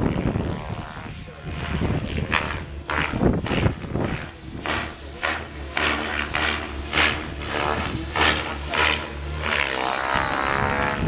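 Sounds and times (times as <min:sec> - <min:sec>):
model airplane motor whine: 0:00.0 - 0:11.0
wind gusts on microphone: 0:00.0 - 0:11.0.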